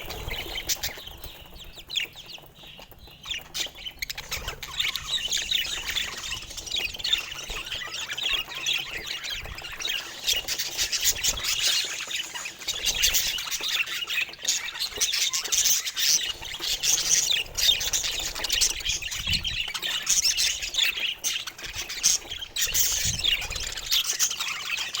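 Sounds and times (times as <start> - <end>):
budgies chirping and squawking: 0.0 - 25.0.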